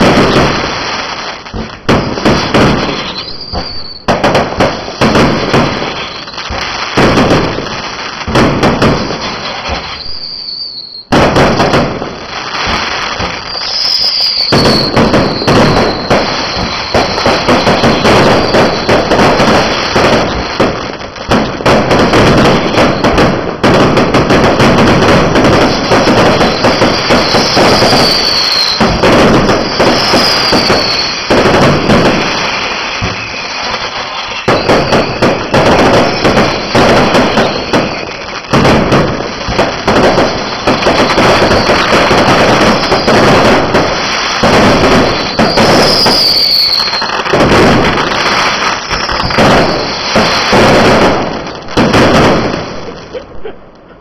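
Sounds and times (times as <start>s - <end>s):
fireworks bangs and crackle: 0.0s - 54.0s
fireworks falling whistles: 0.0s - 54.0s.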